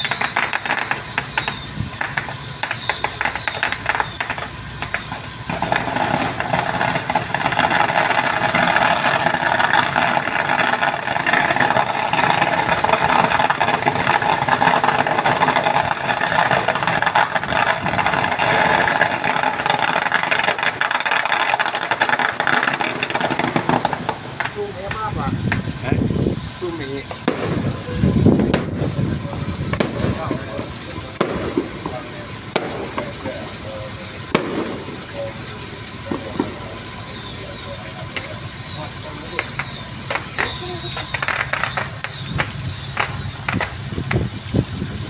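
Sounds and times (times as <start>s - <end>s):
boat engine rattling: 0.0s - 45.0s.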